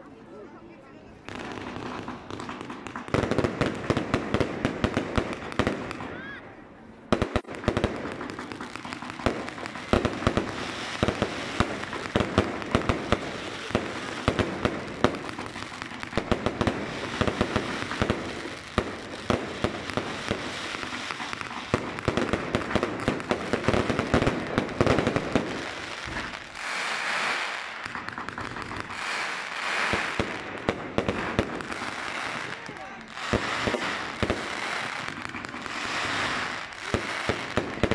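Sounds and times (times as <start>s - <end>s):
firework bangs: 1.2s - 6.4s, 7.1s - 37.9s
firework crackling: 1.2s - 6.4s, 7.1s - 37.9s.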